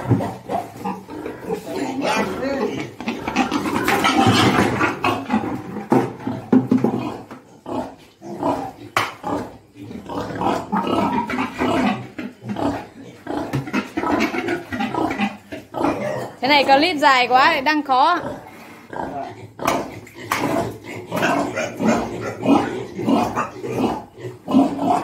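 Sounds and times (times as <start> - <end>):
pigs grunting: 0.0 - 16.9, 18.0 - 25.0.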